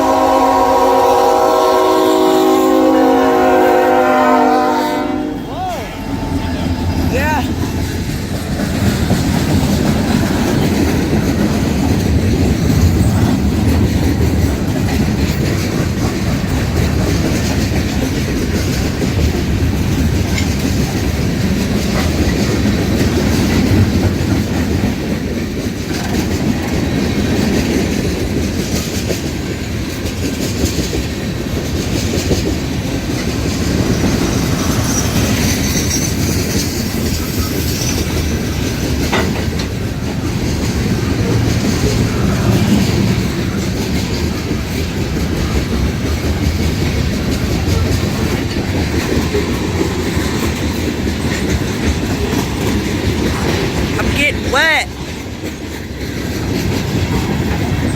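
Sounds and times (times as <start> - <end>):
freight train rolling past: 0.0 - 57.9
wheels clacking over rail joints: 6.0 - 54.0, 55.0 - 57.9.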